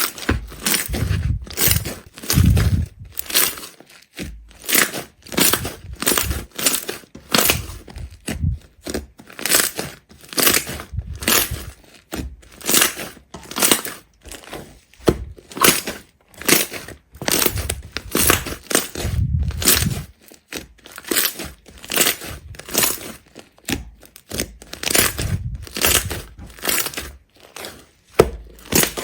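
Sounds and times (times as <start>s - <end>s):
crunching of crunchy material: 0.0s - 29.0s.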